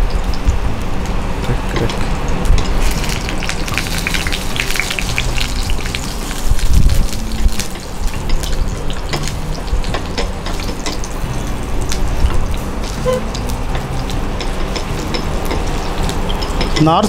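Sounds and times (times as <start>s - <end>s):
spattering oil crackles and pops: 0.0s - 16.9s
patties sizzling in oil: 0.0s - 17.0s.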